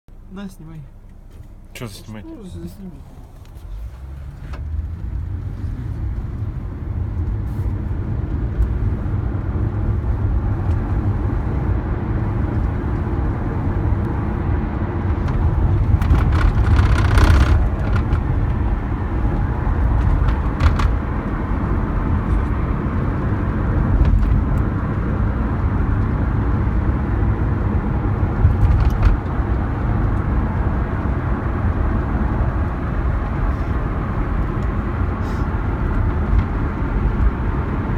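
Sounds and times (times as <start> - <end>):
car road and engine rumble: 0.1 - 37.9.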